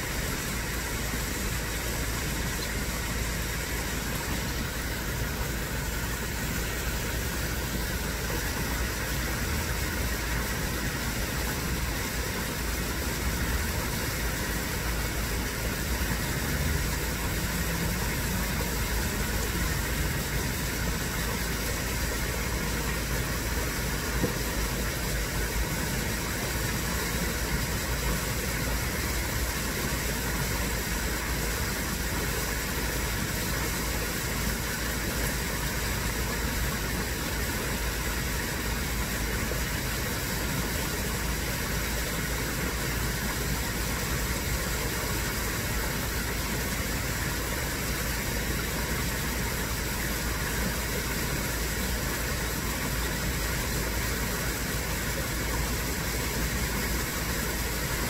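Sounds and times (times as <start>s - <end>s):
waterfall spilling over rocks: 0.0s - 58.0s.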